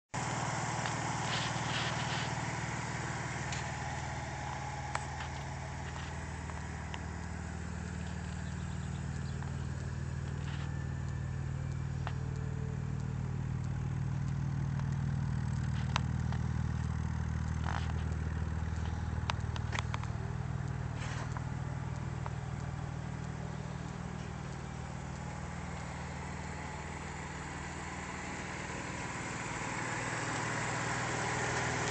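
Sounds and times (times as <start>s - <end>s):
car engine idling: 0.1s - 31.9s
light clicks: 0.3s - 27.1s.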